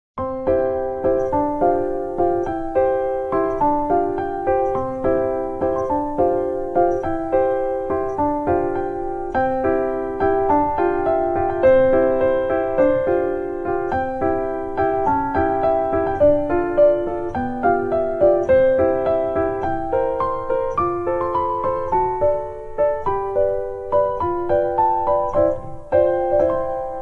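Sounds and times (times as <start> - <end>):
gentle electric piano melody: 0.2 - 27.0.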